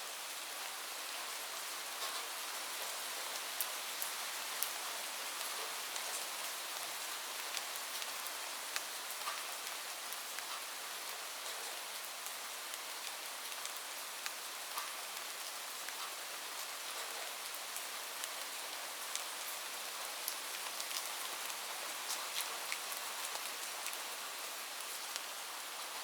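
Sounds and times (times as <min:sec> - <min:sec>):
light rain falling: 0:00.0 - 0:26.0.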